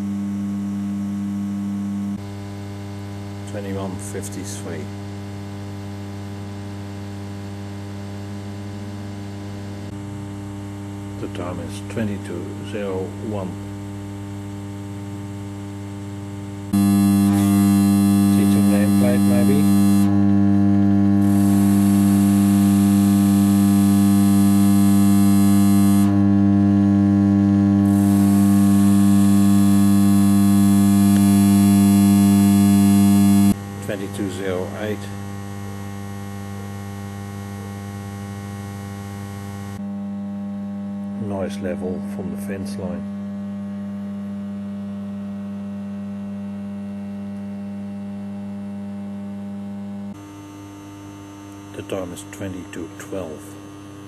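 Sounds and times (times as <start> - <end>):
electrical substation hum: 0.0 - 54.0.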